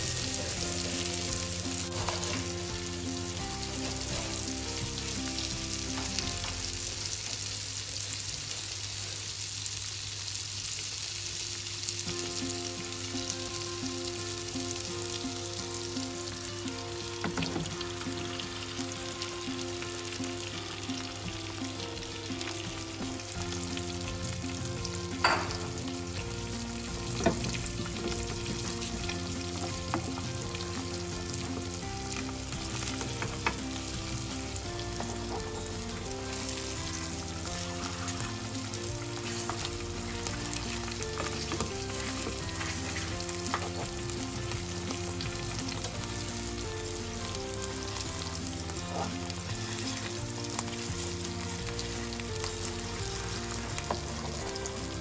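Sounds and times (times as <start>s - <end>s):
food sizzling in frying pan: 0.0s - 55.0s.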